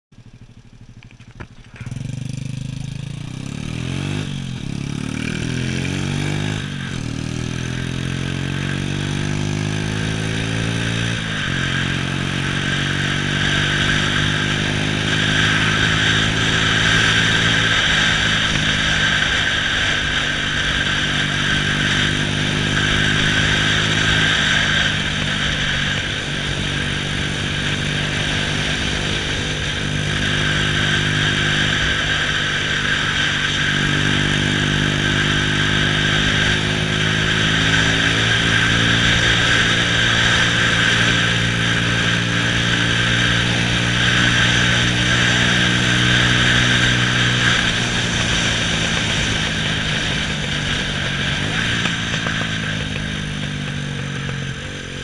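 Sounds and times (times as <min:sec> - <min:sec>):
motorcycle engine revving: 0:00.1 - 0:55.0
wind noise: 0:08.6 - 0:55.0.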